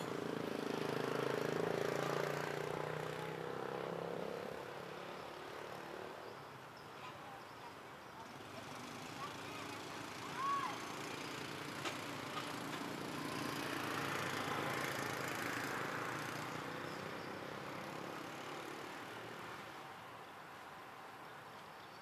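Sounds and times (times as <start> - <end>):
motorbike engines passing: 0.0 - 21.8.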